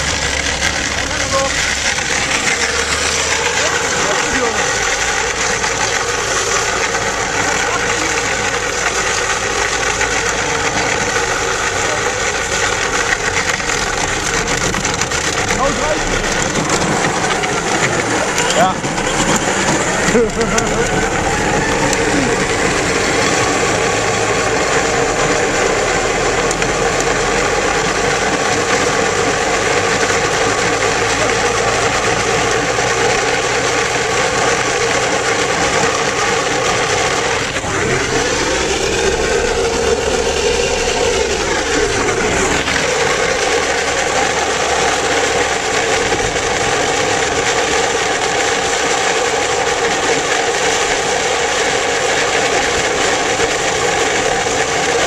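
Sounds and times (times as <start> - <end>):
toy car wheels rolling on asphalt: 0.0 - 55.0.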